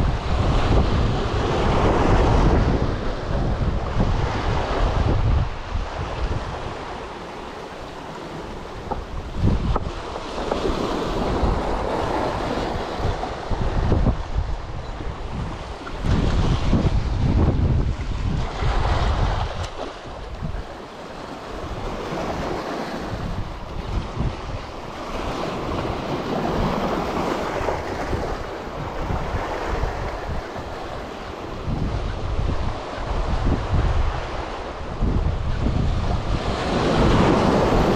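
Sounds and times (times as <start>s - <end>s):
sea waves washing on rocks: 0.0s - 14.7s, 15.3s - 37.9s
wind buffeting microphone: 0.0s - 37.9s.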